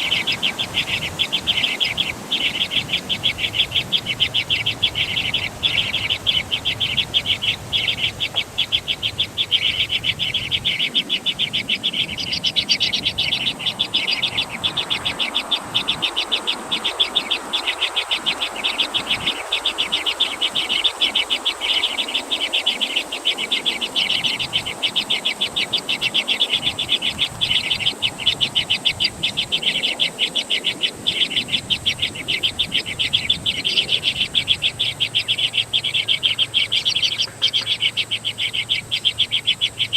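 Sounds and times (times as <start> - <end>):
birds chirping: 0.0 - 39.9
thin steady high tone: 0.0 - 39.9.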